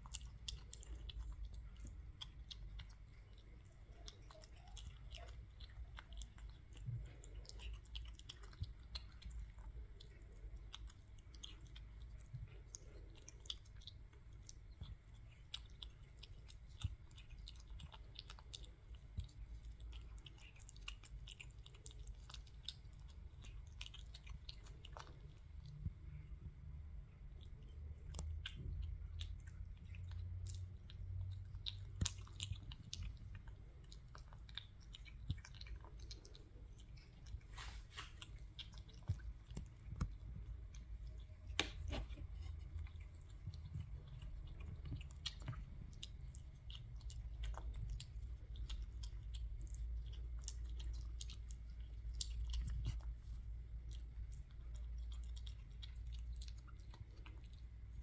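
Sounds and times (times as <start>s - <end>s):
kitten chewing wetly: 0.0s - 58.0s.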